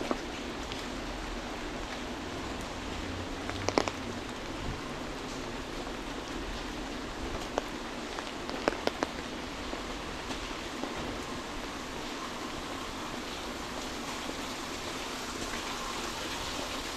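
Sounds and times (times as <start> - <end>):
rain on wet pavement: 0.0 - 16.9.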